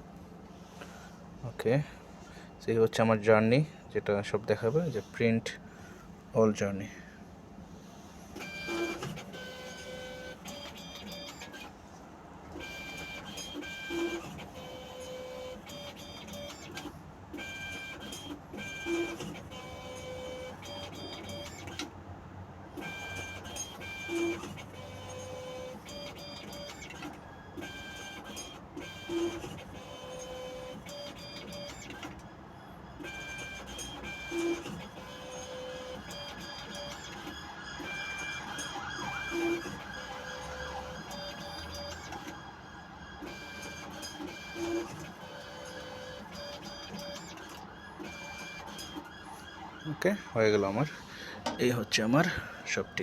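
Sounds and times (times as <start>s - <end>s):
ticket printer whirring: 8.4s - 22.0s, 22.7s - 53.0s.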